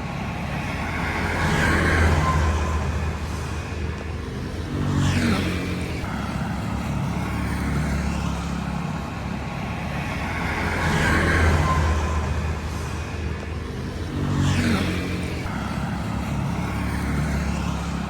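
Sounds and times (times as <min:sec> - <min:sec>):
traffic engine rumble: 0:00.0 - 0:18.0
vehicle passing: 0:00.0 - 0:18.0.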